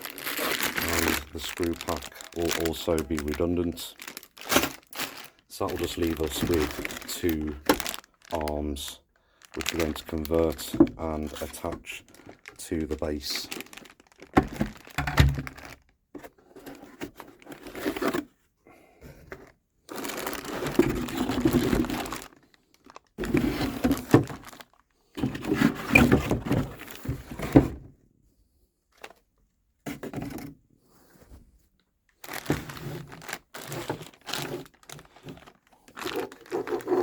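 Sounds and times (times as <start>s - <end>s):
packaging crinkling and rustling: 0.0s - 18.3s, 19.3s - 27.7s, 32.1s - 37.0s.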